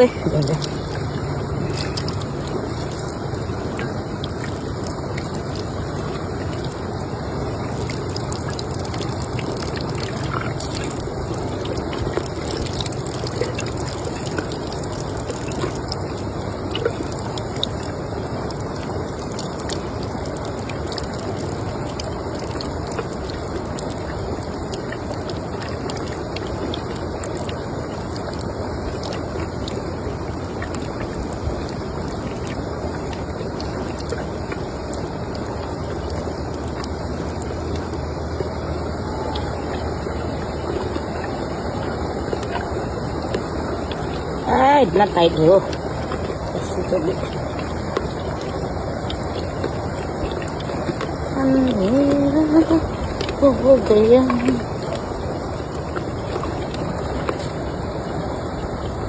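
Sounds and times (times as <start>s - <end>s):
running water trickling: 0.0s - 59.0s.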